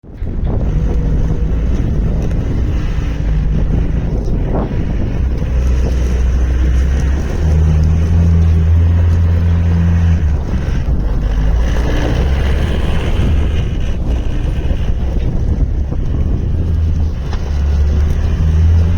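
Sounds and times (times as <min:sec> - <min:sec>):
loader diesel engine running: 0:00.0 - 0:18.9.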